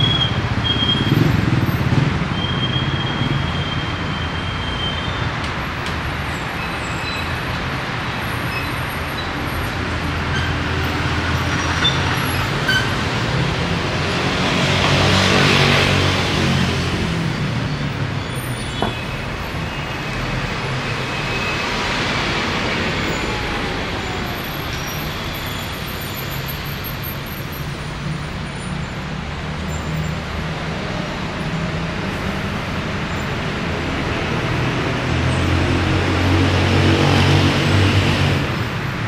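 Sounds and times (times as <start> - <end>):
cars and buses driving past: 0.0 - 39.0.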